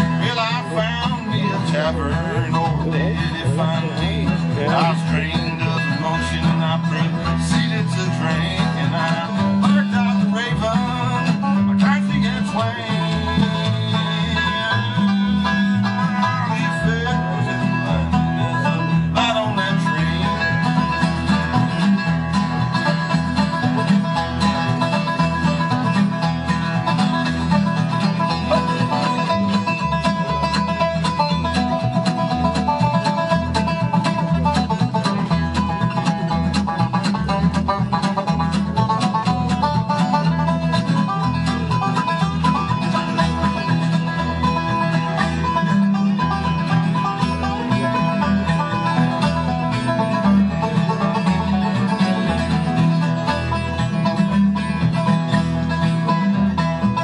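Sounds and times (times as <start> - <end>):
banjo picking: 0.0 - 57.0
strummed acoustic guitar: 0.0 - 57.0
upright bass plucking: 0.0 - 57.0.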